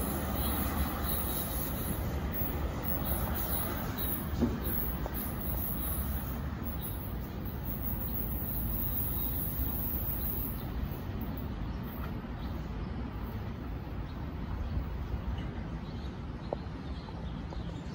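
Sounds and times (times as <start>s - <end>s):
train rumble: 0.0s - 17.8s.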